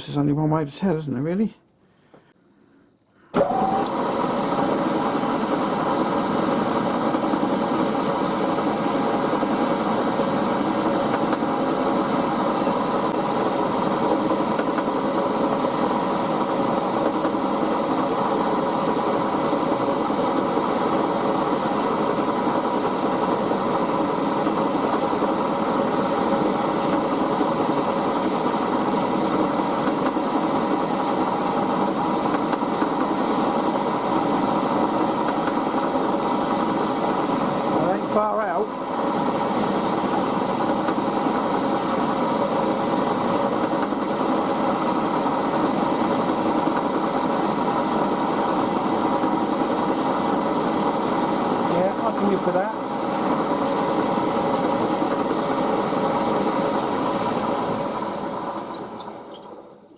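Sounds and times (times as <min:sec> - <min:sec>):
milling machine running: 0:03.4 - 0:59.8.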